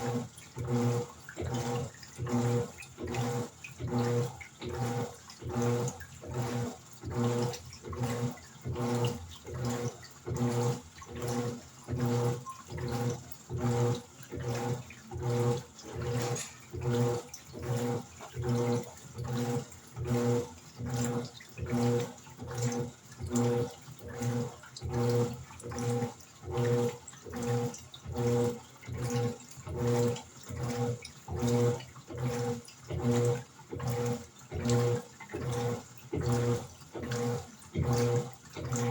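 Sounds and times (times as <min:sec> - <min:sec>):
washing machine motor humming: 0:00.0 - 0:38.9
water and clothes sloshing: 0:00.0 - 0:38.9.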